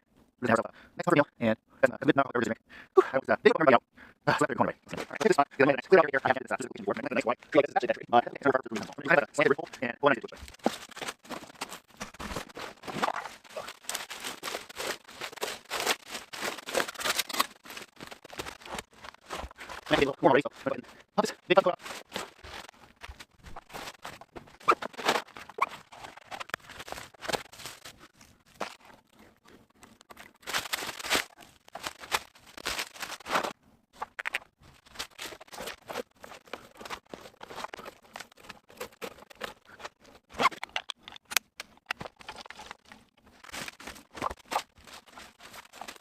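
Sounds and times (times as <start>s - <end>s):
scraping and scratching handling noises: 4.9s - 5.4s, 8.2s - 46.0s.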